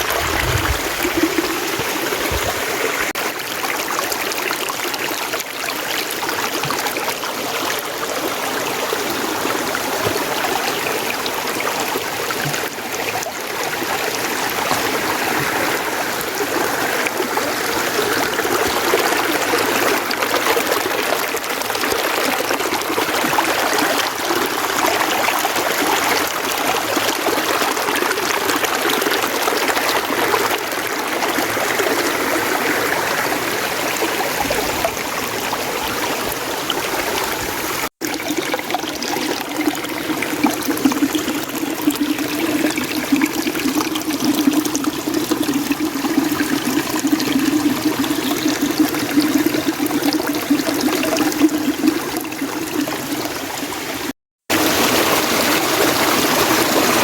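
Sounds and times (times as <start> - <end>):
water trickling: 0.0 - 27.9, 29.9 - 54.0
stream running over rocks: 0.0 - 57.0.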